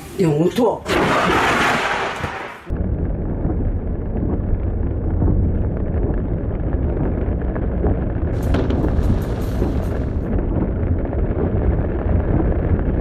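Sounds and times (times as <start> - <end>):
thunder rumbling: 0.9 - 13.0
faint crackle: 1.1 - 13.0.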